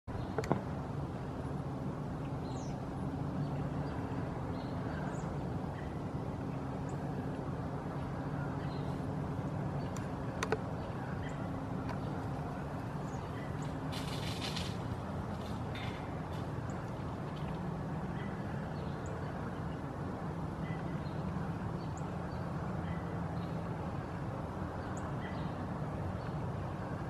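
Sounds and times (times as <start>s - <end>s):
low mechanical hum: 0.1s - 27.0s.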